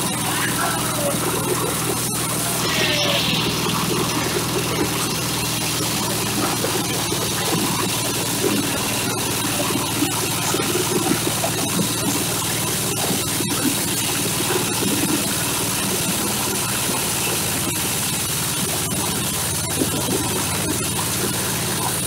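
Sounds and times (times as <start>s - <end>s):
corn sheller mechanical noise: 0.0s - 22.0s
small diesel engine running: 0.0s - 22.0s.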